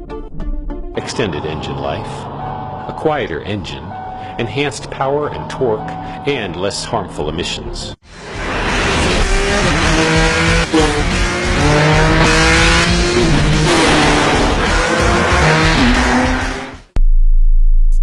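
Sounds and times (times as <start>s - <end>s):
music: 0.0s - 8.6s, 9.6s - 17.1s
racing car engine accelerating: 1.0s - 7.2s, 8.1s - 16.9s.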